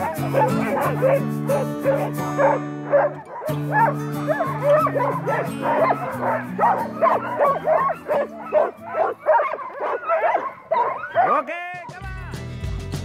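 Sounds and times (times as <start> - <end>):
huskies barking and yelping: 0.0 - 11.5.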